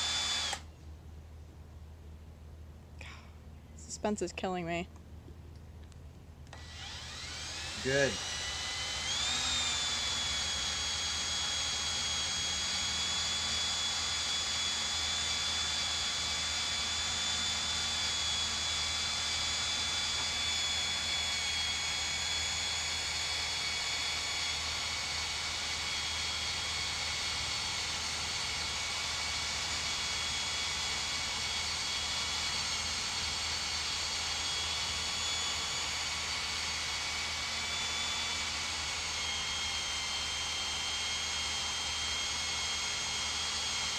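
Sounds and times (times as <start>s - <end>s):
cordless drill boring through steel: 0.0s - 0.7s, 6.5s - 43.9s.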